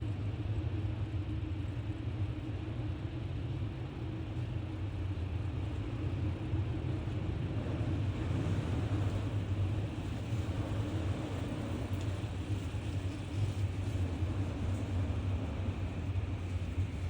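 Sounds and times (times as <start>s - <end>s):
strong wind buffeting microphone: 2.5s - 17.0s.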